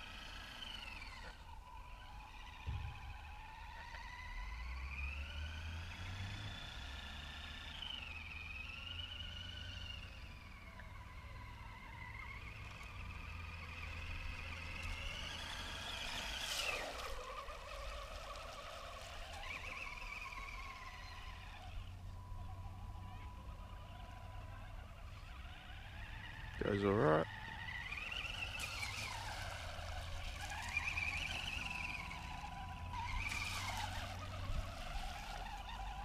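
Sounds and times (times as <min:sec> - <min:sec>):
electric motor and gearbox whining: 0:00.0 - 0:36.0.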